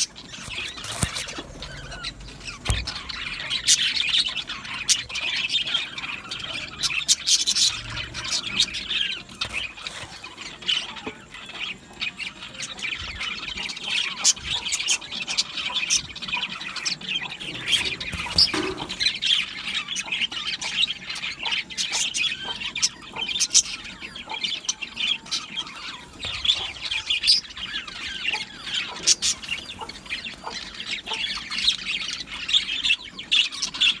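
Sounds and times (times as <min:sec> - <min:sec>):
budgerigars chattering and chirping: 0:00.0 - 0:34.0.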